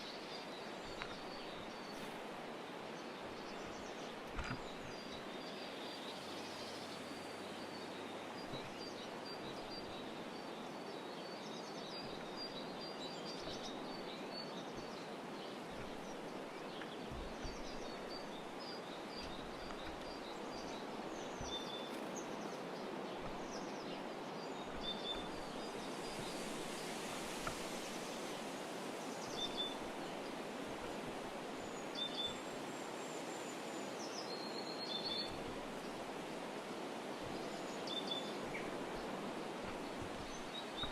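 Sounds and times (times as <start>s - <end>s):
outdoor background hiss: 0.0s - 40.9s
songbirds chirping: 0.0s - 40.9s.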